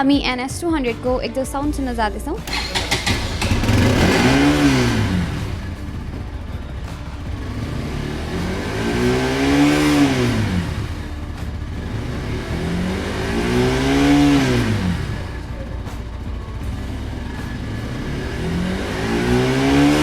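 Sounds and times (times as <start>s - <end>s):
motorcycle engine revving: 2.4s - 20.0s.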